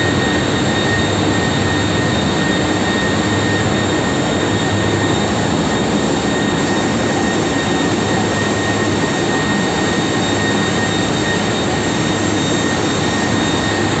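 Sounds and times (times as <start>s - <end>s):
constant high whine: 0.0s - 14.0s
engine room machinery roar: 0.0s - 14.0s.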